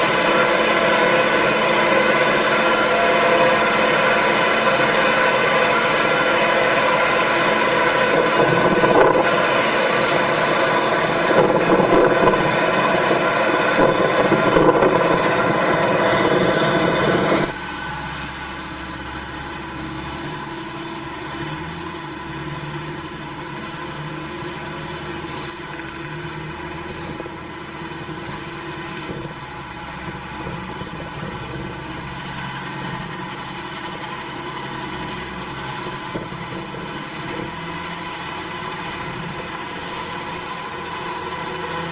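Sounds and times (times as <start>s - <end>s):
farm machine engine running: 0.0s - 41.9s.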